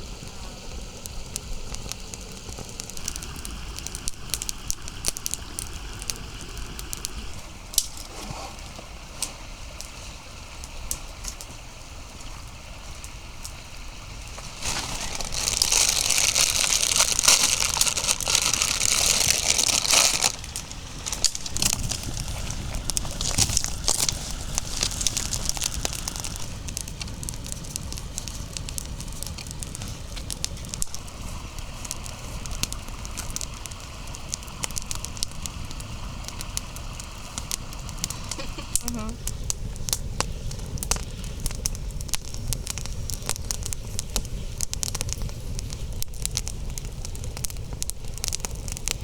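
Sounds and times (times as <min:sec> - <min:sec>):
campfire crackling and popping: 0:00.0 - 0:49.0
loud steady hiss: 0:00.0 - 0:49.0.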